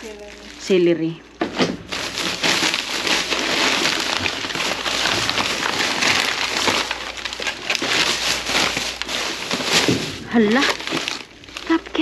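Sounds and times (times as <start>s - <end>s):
plastic bag and packaging rustling: 0.0s - 12.0s.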